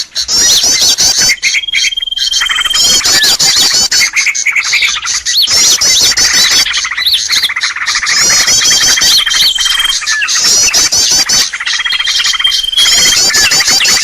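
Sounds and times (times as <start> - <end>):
chorus of small birds calling: 0.0 - 14.0.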